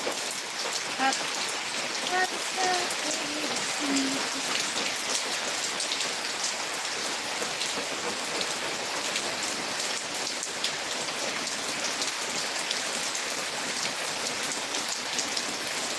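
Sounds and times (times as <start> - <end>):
heavy rain falling: 0.0 - 15.9.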